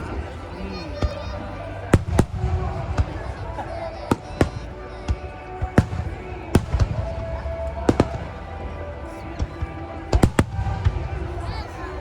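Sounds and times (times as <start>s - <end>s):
fireworks bangs: 1.0s - 11.7s.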